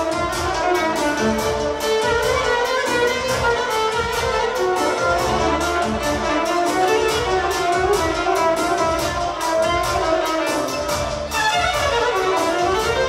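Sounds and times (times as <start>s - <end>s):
instrumental music with quick beat: 0.0s - 13.0s.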